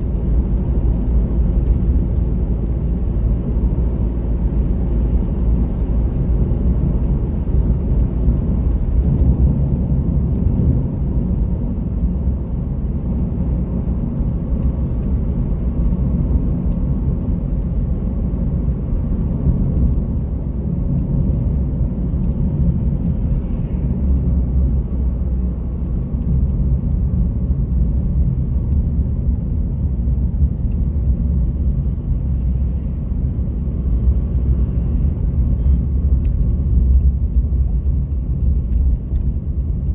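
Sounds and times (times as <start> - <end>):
engine and tyre rumble in car: 0.0 - 39.9.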